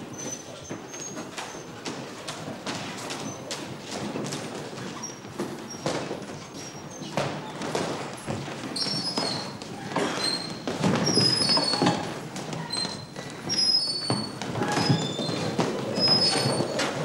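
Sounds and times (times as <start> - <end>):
shoes squeaking on floor: 0.0 - 17.0.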